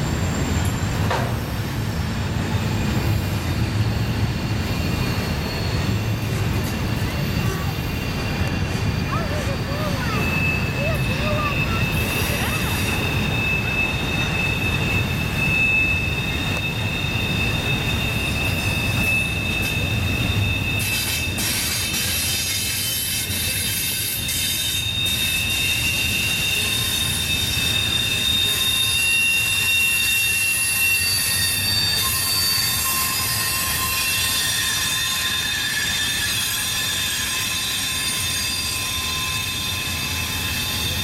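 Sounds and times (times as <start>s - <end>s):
freight train rumbling: 0.0s - 41.0s
wheel flange squeal: 0.0s - 41.0s.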